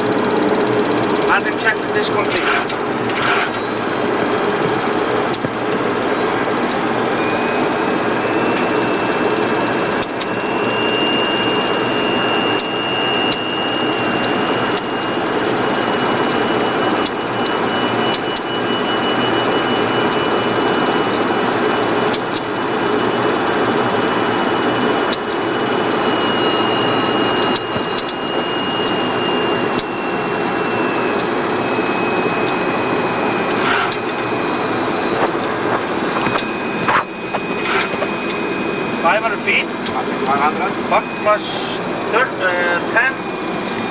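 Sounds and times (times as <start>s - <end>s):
airflow and engine noise: 0.0s - 43.9s.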